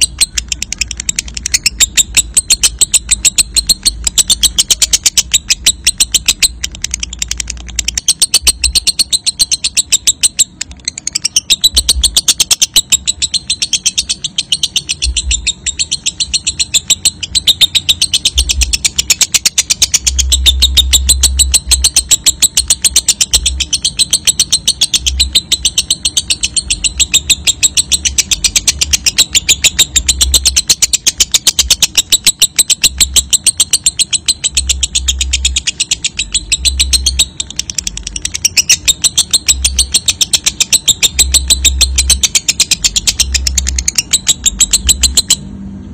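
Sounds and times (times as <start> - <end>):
bird chattering trill: 0.0 - 45.4.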